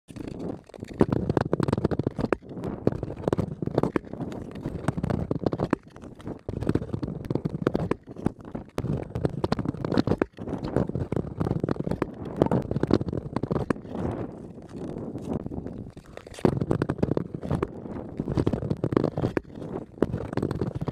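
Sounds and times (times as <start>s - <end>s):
ice skates scraping over ice: 0.1s - 20.9s.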